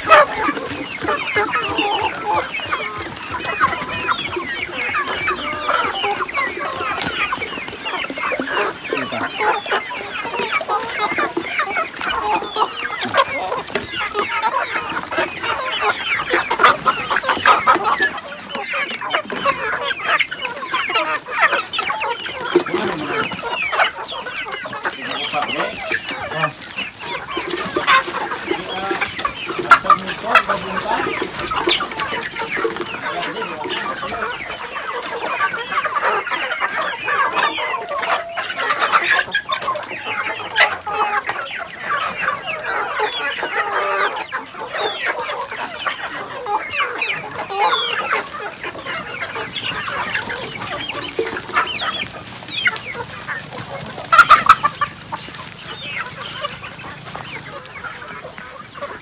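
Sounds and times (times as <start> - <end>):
chickens clucking and squawking: 0.0 - 59.0.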